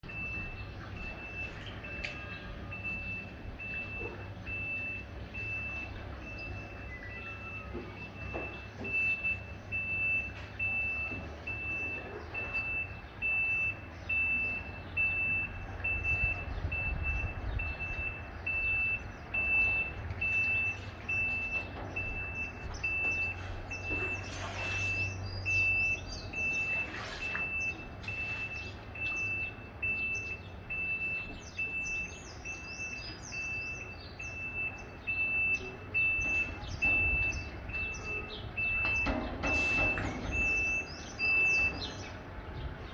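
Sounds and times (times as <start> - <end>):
truck engine rumble: 0.0 - 42.9
truck reverse alarm beeping: 0.0 - 42.9.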